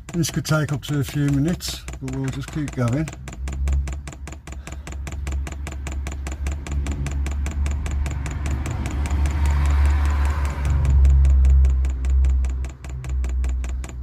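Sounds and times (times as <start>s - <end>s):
fuel pump clicking rapidly: 0.0s - 14.0s
steady low hum: 0.0s - 14.0s.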